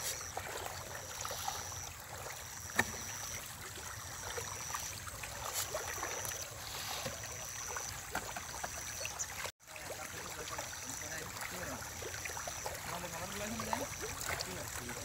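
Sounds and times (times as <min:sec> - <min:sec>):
fish splashing at water surface: 0:00.0 - 0:15.0
steady water hiss: 0:00.0 - 0:15.0.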